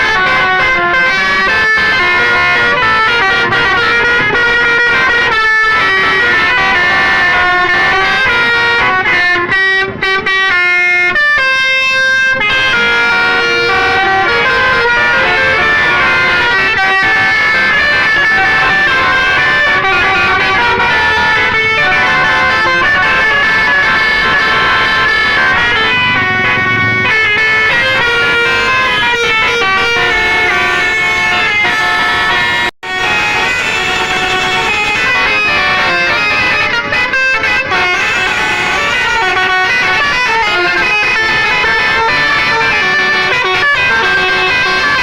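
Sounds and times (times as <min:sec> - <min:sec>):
multi-tone bus horns playing tunes: 0:00.0 - 0:45.0.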